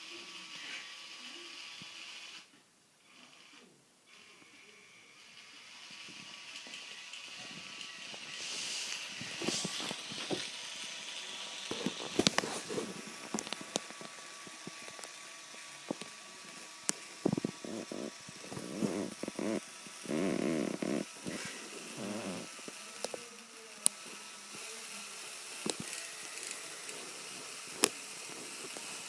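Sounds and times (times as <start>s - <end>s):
toy truck motors whirring: 0.0s - 29.0s.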